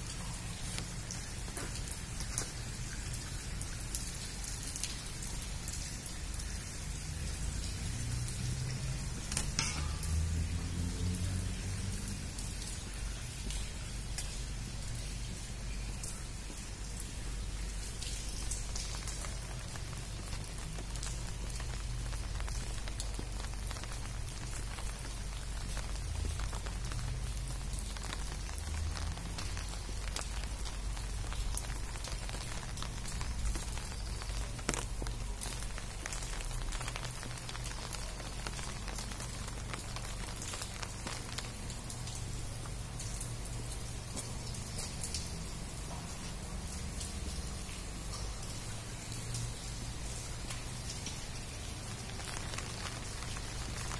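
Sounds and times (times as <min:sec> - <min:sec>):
rain on wet pavement: 0:00.0 - 0:53.9.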